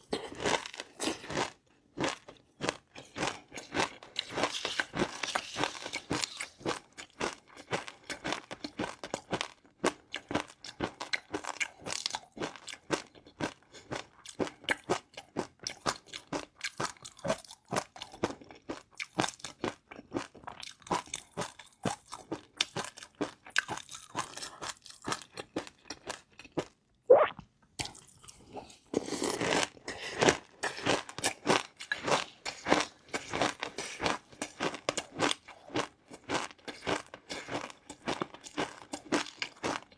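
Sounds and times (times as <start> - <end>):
chewing crunchy food: 0.0 - 26.8, 27.7 - 39.9.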